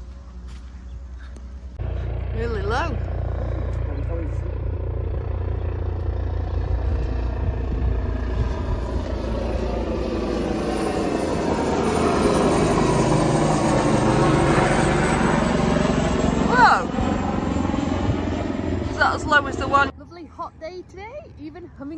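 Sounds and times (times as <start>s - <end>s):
helicopter rotor and engine: 0.0s - 21.9s.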